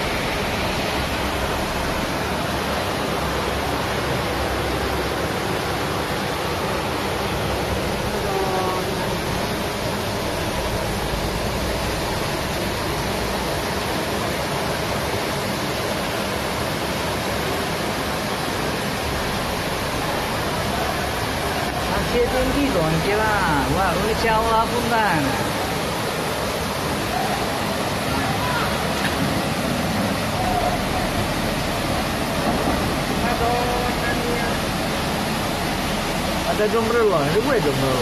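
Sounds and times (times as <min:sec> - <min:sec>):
floodwater rushing down steps: 0:00.0 - 0:38.0.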